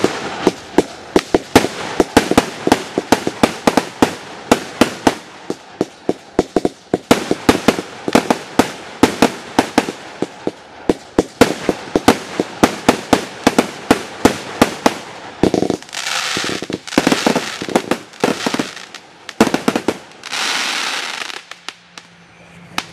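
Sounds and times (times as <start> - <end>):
firework bangs: 0.0 - 22.1
firework hissing: 0.0 - 22.9.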